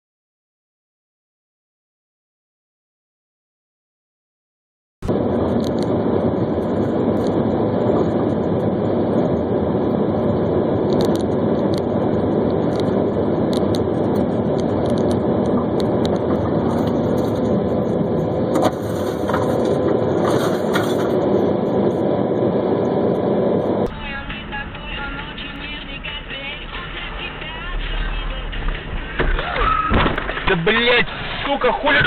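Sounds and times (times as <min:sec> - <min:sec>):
car road and engine noise: 0:05.0 - 0:32.0.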